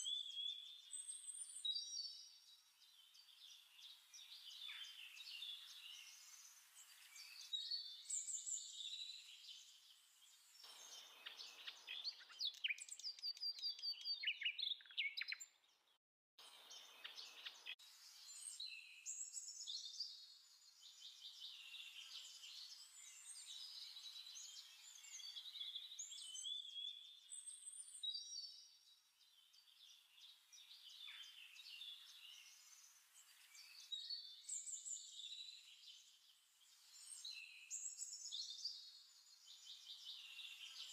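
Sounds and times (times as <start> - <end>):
birds chirping and singing: 0.0 - 15.8, 16.7 - 40.9.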